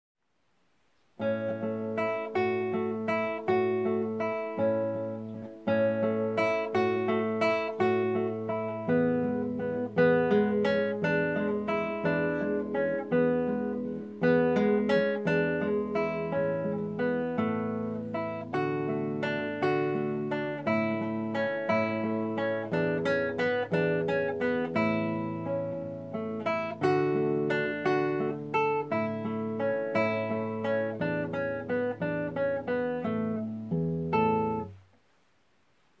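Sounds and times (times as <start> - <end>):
fingerstyle classical guitar: 1.2 - 35.0.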